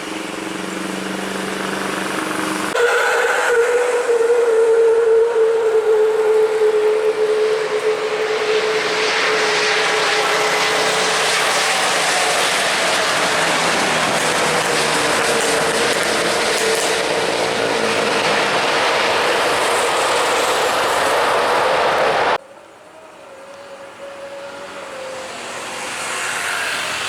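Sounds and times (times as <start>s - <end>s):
jet airliner engines: 0.0s - 27.0s.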